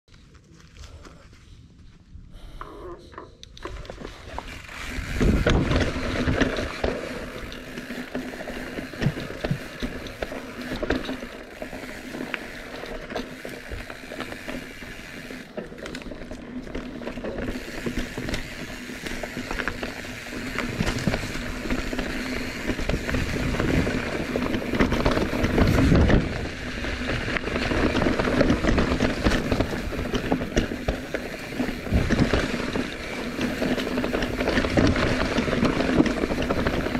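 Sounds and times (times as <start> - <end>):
tyre noise: 2.8 - 36.9
bicycle rattling and clicking: 3.1 - 36.9.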